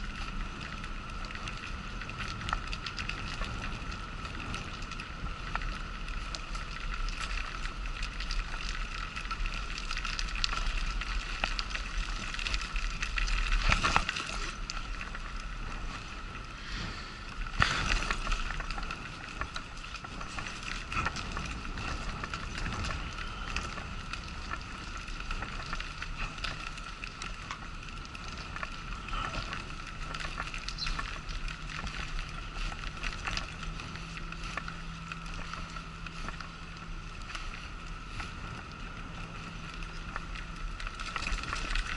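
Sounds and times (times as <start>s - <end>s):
wheelchair rattling on pavement: 0.0s - 16.4s, 17.3s - 41.9s
steady high hum: 0.0s - 41.9s.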